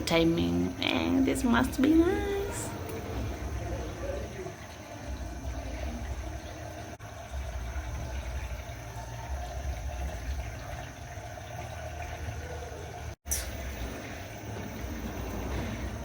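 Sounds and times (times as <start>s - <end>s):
low steady hum: 0.0s - 16.0s
water rushing into washing machine: 0.0s - 16.0s.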